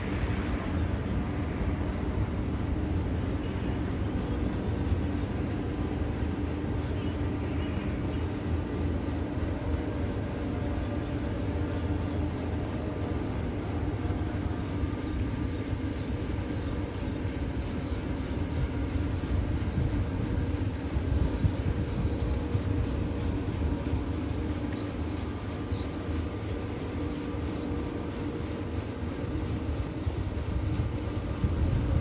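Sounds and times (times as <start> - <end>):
faint steady tones: 0.0 - 32.0
riverboat engine rumble: 0.0 - 32.0.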